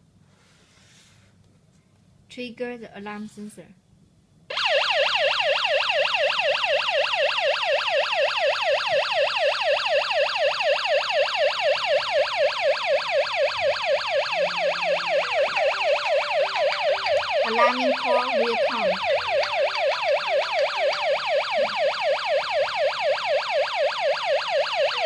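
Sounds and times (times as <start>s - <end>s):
burglar alarm siren wailing: 4.5s - 25.0s.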